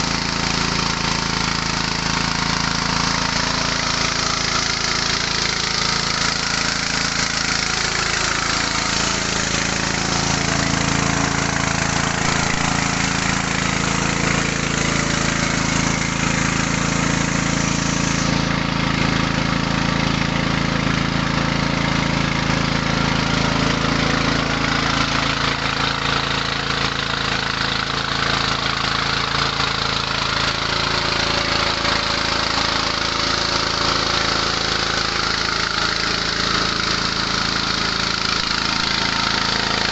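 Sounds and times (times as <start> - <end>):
rice huller mechanical din: 0.0 - 39.9
small petrol engine running: 0.0 - 39.9.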